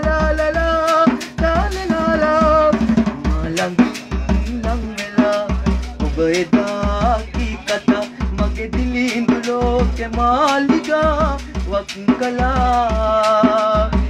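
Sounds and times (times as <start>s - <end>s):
drum beat: 0.0s - 14.0s
man singing: 0.0s - 14.0s.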